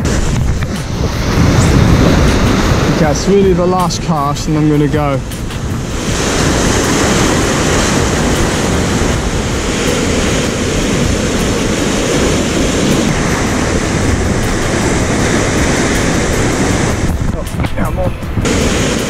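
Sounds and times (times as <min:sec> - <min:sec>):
surf breaking over rocks: 0:00.0 - 0:19.0.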